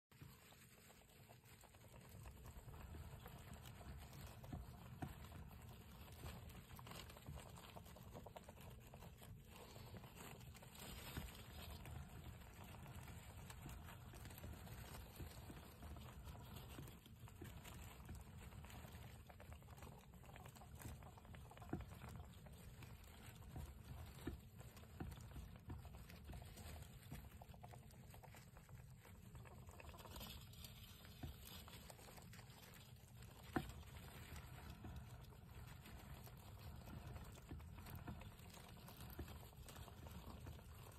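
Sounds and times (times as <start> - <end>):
mice scurrying: 0.0 - 40.9.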